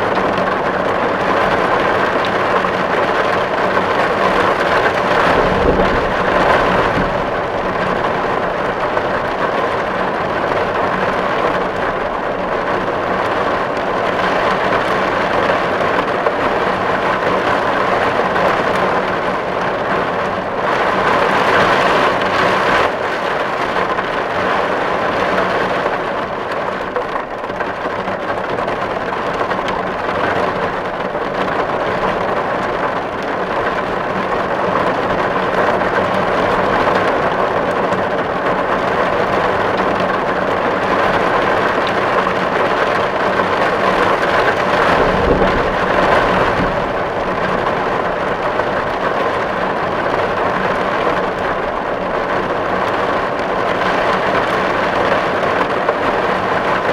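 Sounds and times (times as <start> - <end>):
heavy rain on a tin roof: 0.0 - 56.9.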